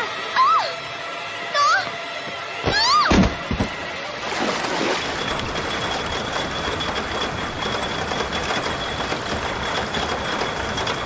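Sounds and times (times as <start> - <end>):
boat ride mechanical rumble: 0.0 - 11.0.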